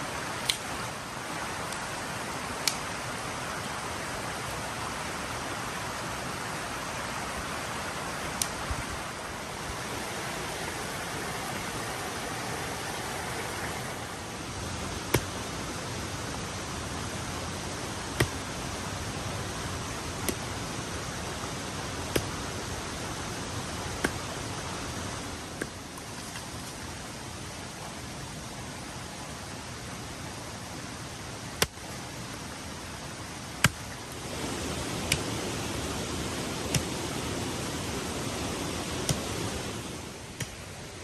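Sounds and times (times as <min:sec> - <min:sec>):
creek rushing: 0:00.0 - 0:41.0.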